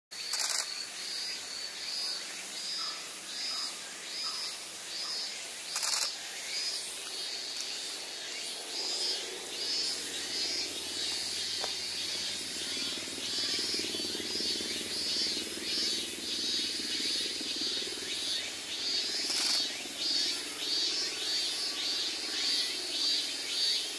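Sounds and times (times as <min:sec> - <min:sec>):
insects chirping: 0:00.2 - 0:23.9.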